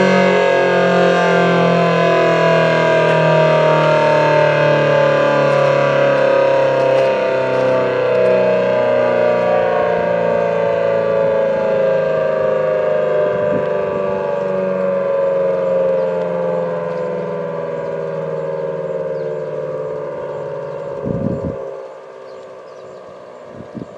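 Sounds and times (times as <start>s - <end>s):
warning siren wailing: 0.0s - 23.9s.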